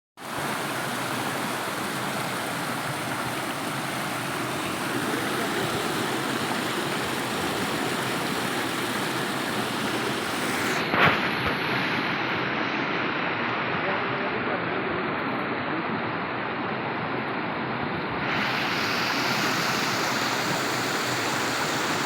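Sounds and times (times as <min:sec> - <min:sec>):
waterfall rushing: 0:00.2 - 0:14.5, 0:18.2 - 0:22.0.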